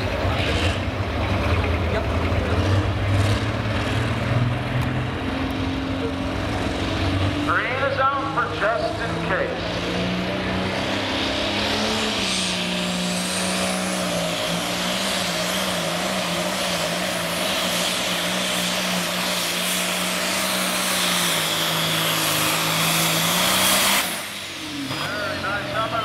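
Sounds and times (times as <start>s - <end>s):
diesel tractor engine under load: 0.0s - 26.0s
high turbo whine: 0.0s - 26.0s.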